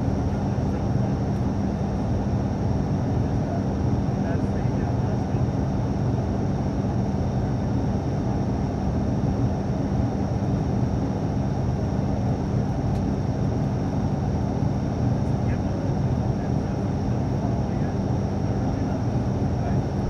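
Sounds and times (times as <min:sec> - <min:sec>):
turboprop engine and propeller drone: 0:00.0 - 0:20.0.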